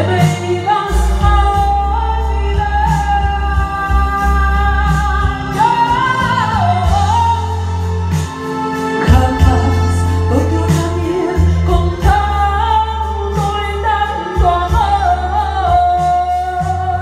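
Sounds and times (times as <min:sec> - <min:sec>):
backing track with bass and beat: 0:00.0 - 0:17.0
woman singing into microphone: 0:00.0 - 0:17.0.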